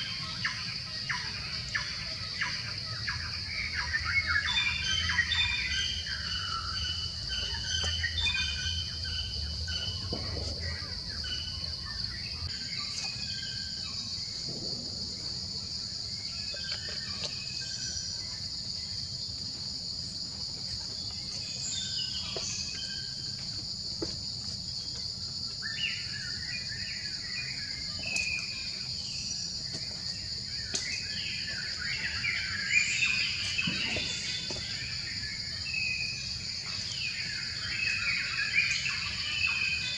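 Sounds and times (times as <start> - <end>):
higher insect tone: 0.0 - 39.9.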